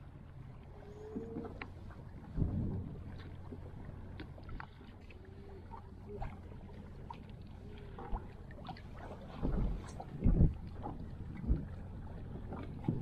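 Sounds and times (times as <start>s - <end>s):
low wind: 0.0s - 13.0s
water rumble: 0.0s - 13.0s.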